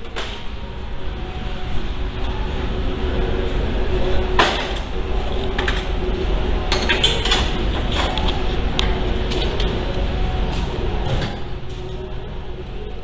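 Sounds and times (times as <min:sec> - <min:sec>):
constant hum: 0:00.0 - 0:13.0.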